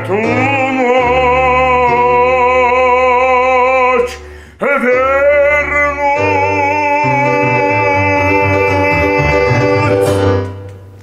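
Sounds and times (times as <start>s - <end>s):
man singing a held note: 0.0s - 10.3s
instrumental accompaniment: 0.0s - 11.0s.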